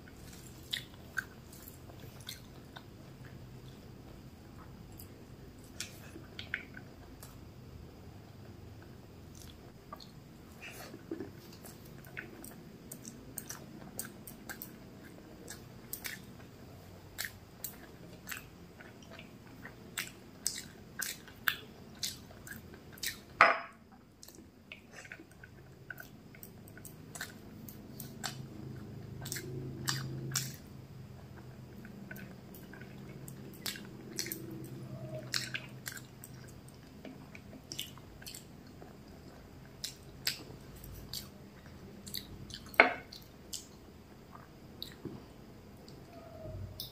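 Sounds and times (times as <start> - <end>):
close chewing: 0.0 - 3.8, 8.8 - 23.4, 24.2 - 45.1.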